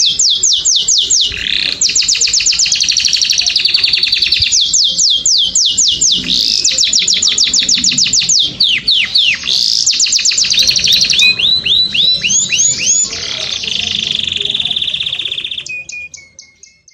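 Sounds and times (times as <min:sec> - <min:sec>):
songbird singing: 0:00.0 - 0:16.9.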